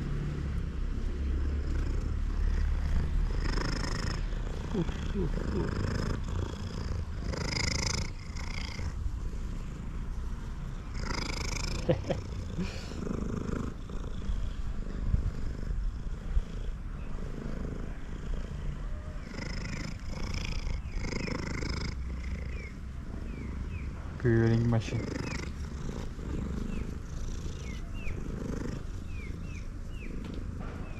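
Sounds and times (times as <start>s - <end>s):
cat purring loudly: 0.0s - 30.9s.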